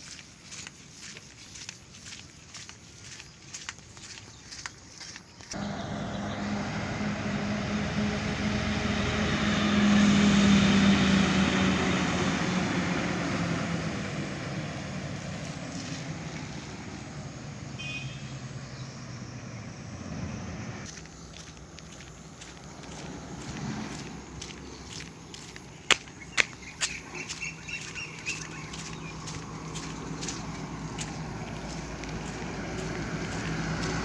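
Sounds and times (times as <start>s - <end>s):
truck driving past: 5.5s - 34.0s.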